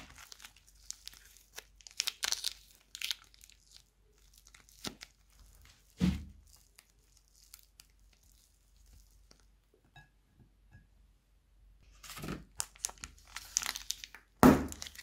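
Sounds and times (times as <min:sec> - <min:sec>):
plastic bag crinkling: 0:00.0 - 0:09.4, 0:11.9 - 0:15.0
clay squeezed crackling: 0:00.0 - 0:09.7, 0:12.4 - 0:15.0.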